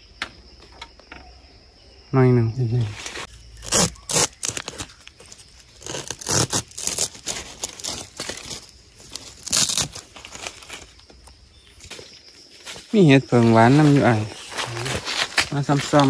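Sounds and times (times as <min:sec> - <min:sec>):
plant stems rustling and cracking: 0:02.9 - 0:16.0.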